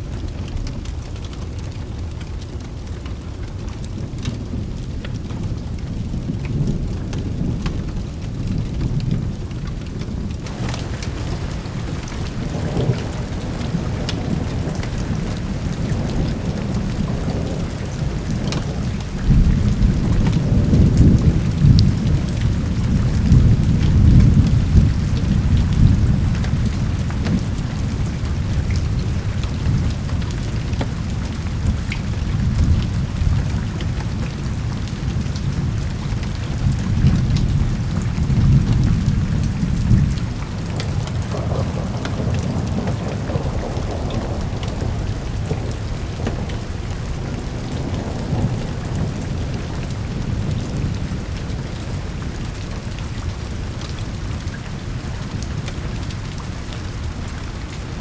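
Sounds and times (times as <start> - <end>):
steady rain hiss: 0.0 - 58.0
rolling thunder: 4.0 - 58.0.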